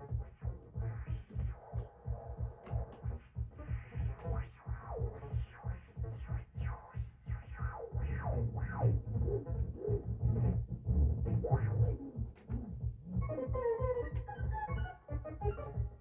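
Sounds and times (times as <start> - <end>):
pulsing synth bass: 0.0 - 16.0.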